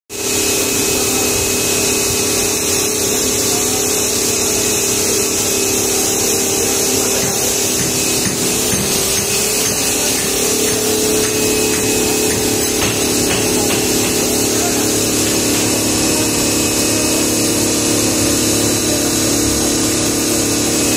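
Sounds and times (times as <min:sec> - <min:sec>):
machine whirring and humming: 0:00.2 - 0:20.9.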